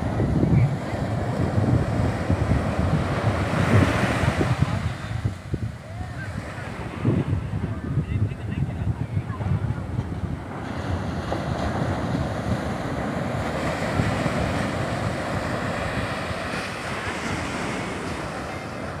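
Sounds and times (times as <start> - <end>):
surf washing up beach: 0.0 - 19.0.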